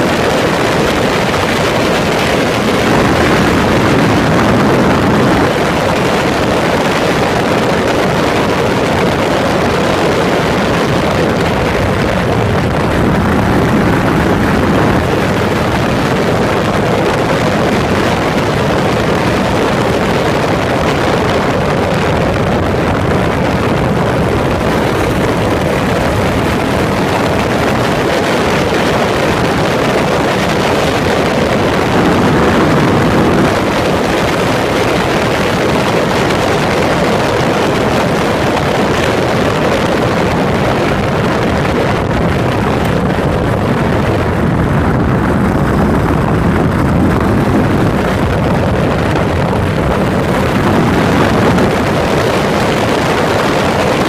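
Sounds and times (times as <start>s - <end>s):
motorcycle engine running: 0.0s - 54.0s
wind rushing past: 0.0s - 54.0s.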